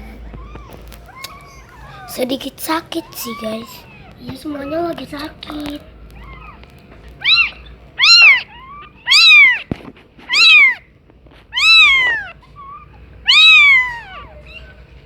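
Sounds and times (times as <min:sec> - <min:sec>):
kitten meowing: 0:00.0 - 0:02.3, 0:02.9 - 0:15.0.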